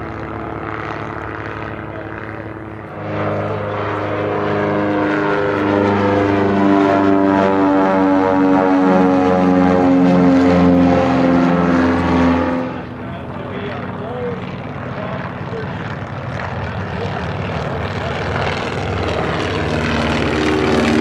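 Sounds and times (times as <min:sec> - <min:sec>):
propeller airplane engine drone: 0:00.0 - 0:21.0.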